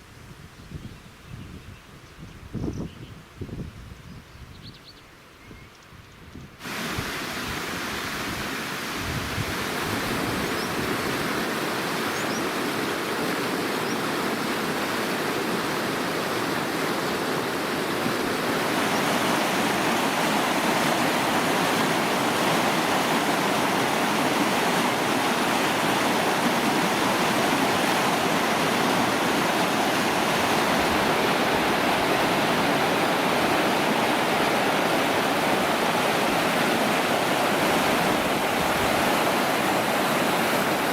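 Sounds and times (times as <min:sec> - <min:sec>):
stream water rushing: 0:06.6 - 0:40.9.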